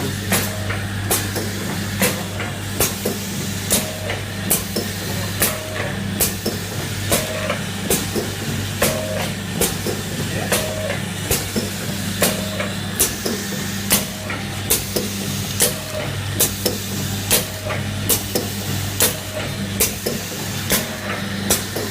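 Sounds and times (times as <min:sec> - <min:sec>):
motor hum: 0:00.0 - 0:21.9.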